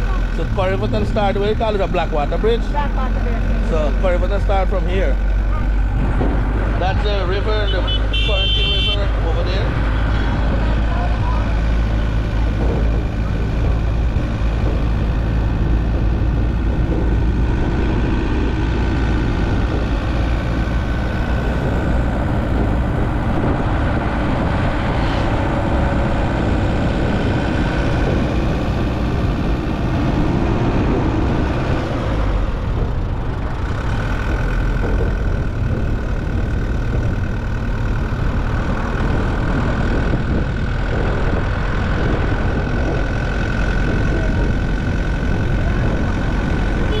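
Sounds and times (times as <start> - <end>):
vehicle engine and road rumble: 0.0 - 47.0.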